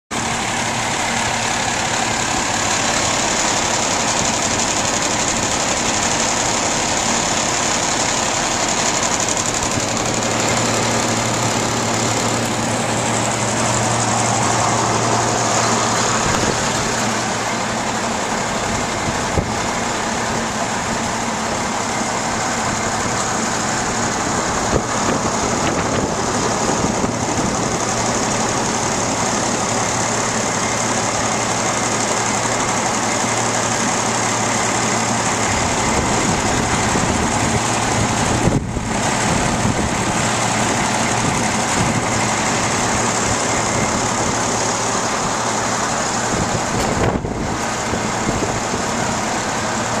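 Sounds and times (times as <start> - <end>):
large engine idling: 0.1 - 50.0
outdoor noise: 0.1 - 50.0.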